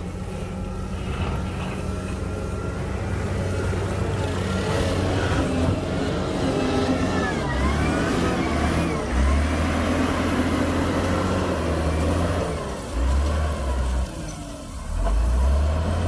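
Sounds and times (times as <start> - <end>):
heavy diesel engine revving: 0.0 - 16.0.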